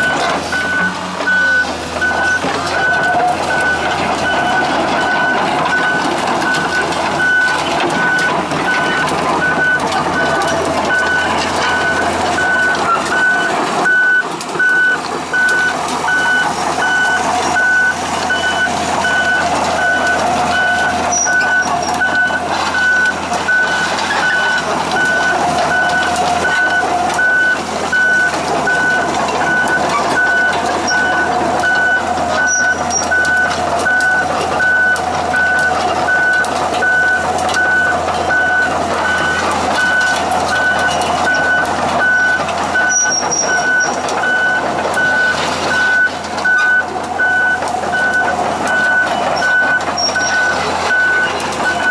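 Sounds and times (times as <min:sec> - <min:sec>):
diesel engine running: 0:00.0 - 0:51.9
excavator travel alarm beeping: 0:00.0 - 0:51.9.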